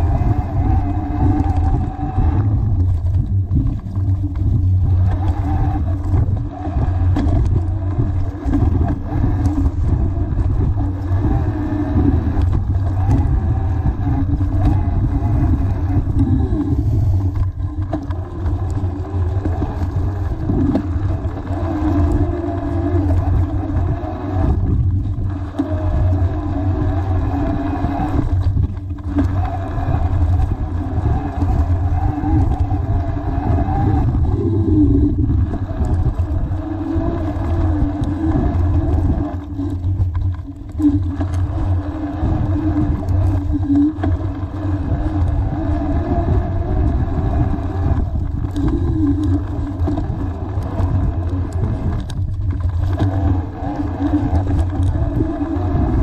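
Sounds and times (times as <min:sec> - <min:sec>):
bike tyre rumbling on dirt trail: 0:00.0 - 0:56.0.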